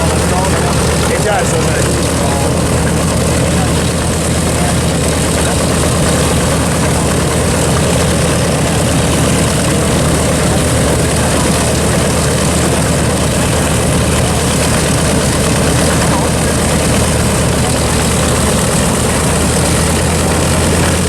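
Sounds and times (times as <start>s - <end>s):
propeller plane engines idling: 0.0s - 21.0s.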